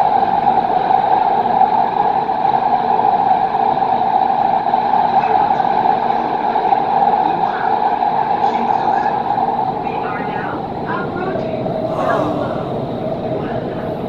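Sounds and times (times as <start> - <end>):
metro train running in tunnel: 0.0 - 14.0.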